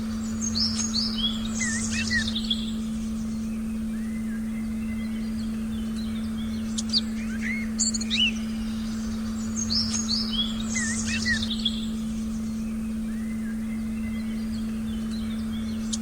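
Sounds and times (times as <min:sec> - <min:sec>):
birds chirping and singing: 0:00.0 - 0:16.0
low meditation tone: 0:00.0 - 0:16.0.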